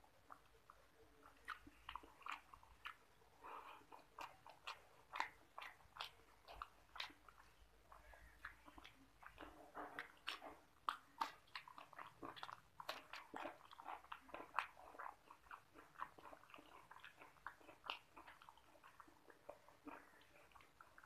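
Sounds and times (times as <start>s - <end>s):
person chewing with wet smacks: 0.0s - 21.0s.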